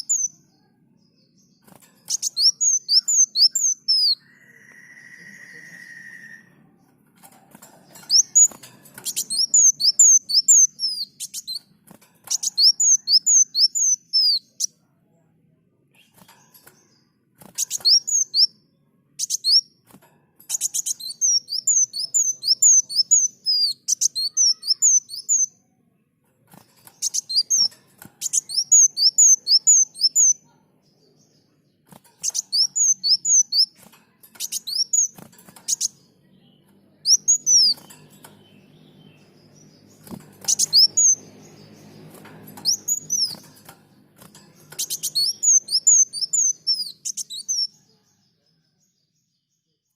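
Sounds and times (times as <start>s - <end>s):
sunbird singing high chirps: 0.0s - 6.8s, 7.9s - 11.7s, 12.3s - 14.7s, 16.0s - 19.8s, 20.5s - 25.7s, 26.8s - 48.1s.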